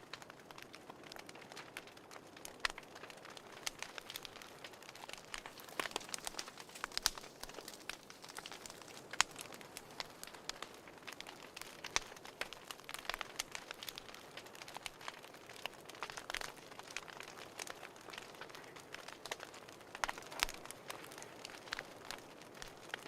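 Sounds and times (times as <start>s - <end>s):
sharp pops and snaps of fire: 0.0s - 23.0s
wood fire crackling: 0.0s - 23.0s.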